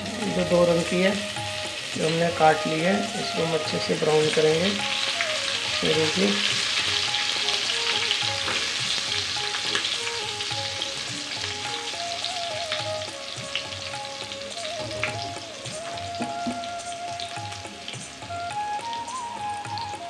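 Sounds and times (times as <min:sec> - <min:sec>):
oil sizzling and crackling: 0:00.0 - 0:20.0.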